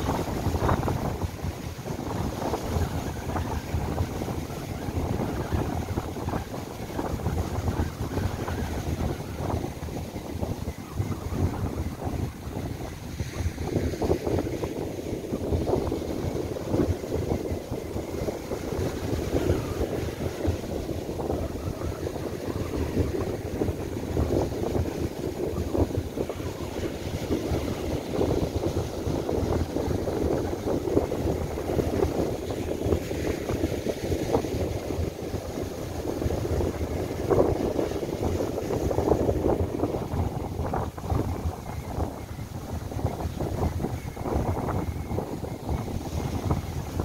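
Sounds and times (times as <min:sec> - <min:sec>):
surf breaking on beach: 0:00.0 - 0:47.0
wind buffeting microphone: 0:00.0 - 0:47.0.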